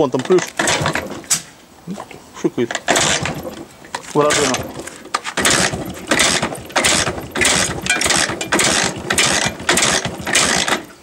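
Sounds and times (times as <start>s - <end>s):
motorcycle engine turning over: 0.2s - 1.3s, 2.7s - 11.0s.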